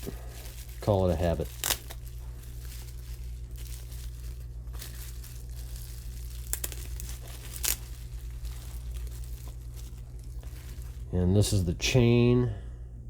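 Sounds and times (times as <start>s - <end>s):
packing tape tearing: 0.0s - 11.1s
wrapping crinkling: 0.0s - 11.7s
steady low hum: 0.0s - 13.0s.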